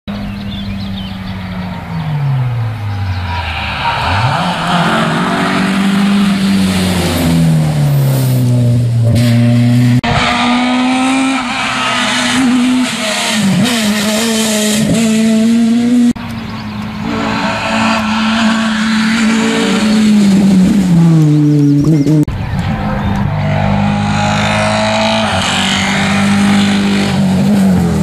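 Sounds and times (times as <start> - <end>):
rally car engines at high revs: 0.2 - 28.0.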